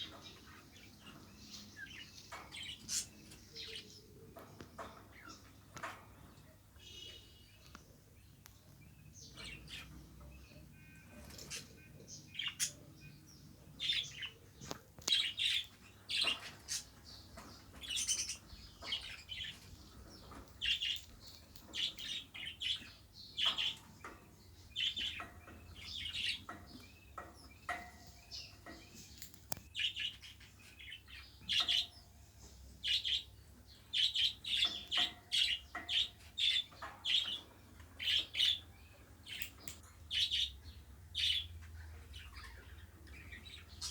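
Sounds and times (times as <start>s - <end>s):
budgerigars chirping: 0.0s - 6.2s, 8.8s - 32.1s, 32.8s - 43.9s.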